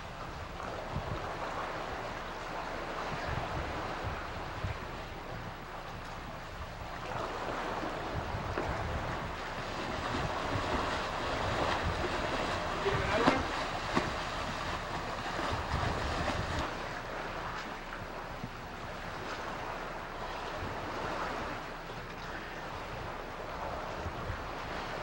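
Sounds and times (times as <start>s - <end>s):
sea waves washing: 0.0s - 25.0s
wind buffeting microphone: 0.0s - 25.0s.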